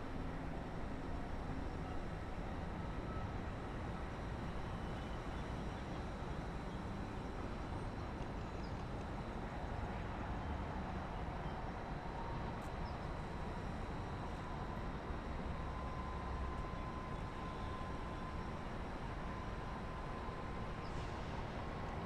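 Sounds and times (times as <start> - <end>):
faint thin whine: 0.1 - 22.0.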